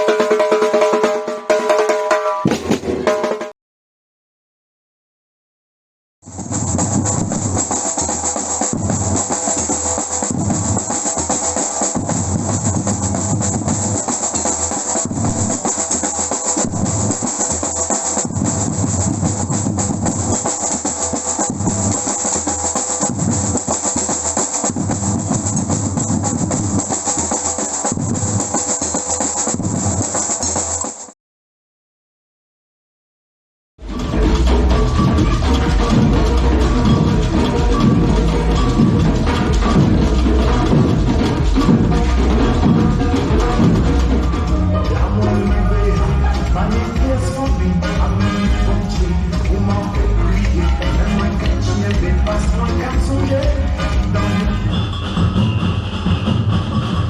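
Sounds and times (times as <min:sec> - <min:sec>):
snare drums and shakers rattling: 0:00.0 - 0:03.5, 0:06.3 - 0:31.1, 0:33.8 - 0:57.0
surdo bass drums beating: 0:02.4 - 0:03.5, 0:06.2 - 0:22.4, 0:23.0 - 0:28.6, 0:33.8 - 0:57.0.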